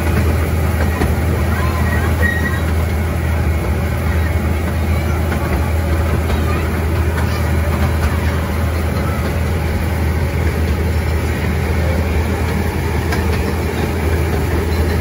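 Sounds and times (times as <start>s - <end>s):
vehicle engine hum and rolling: 0.0s - 15.0s.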